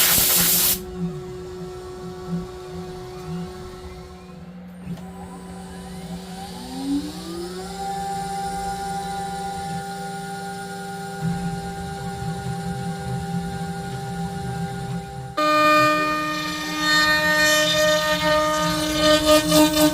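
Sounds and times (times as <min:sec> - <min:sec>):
router spindle whine: 0:00.0 - 0:19.9.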